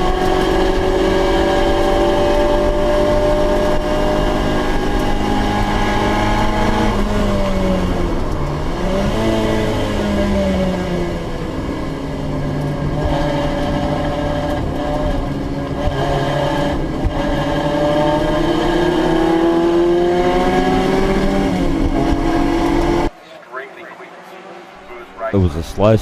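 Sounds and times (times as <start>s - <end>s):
racing car engines at high revs: 0.0s - 26.0s.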